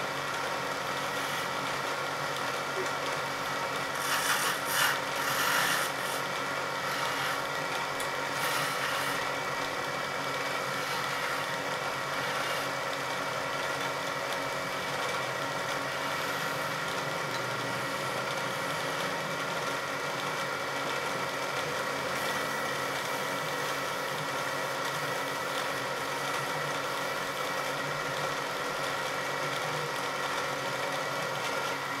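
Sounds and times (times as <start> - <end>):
chisel cutting spinning wood: 0.0 - 32.0
wood lathe humming: 0.0 - 32.0.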